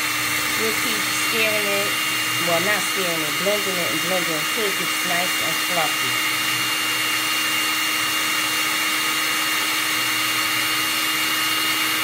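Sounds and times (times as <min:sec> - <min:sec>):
electric hand mixer whirring: 0:00.0 - 0:12.0.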